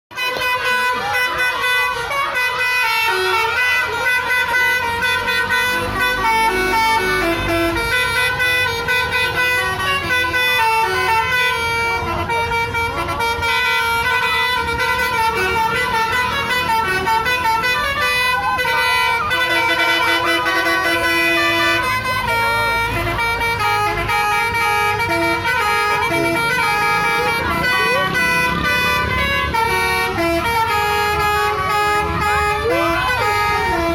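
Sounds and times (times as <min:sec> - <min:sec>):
bus engine running: 0:00.1 - 0:33.9
musical air horns playing a tune: 0:00.1 - 0:33.9.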